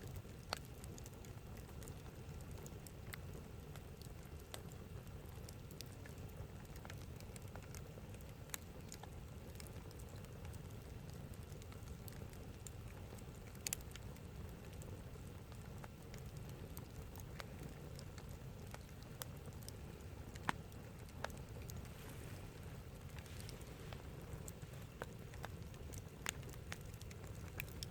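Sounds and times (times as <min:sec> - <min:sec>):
campfire crackling and popping: 0:00.0 - 0:27.9
faint low rumble: 0:00.0 - 0:27.9.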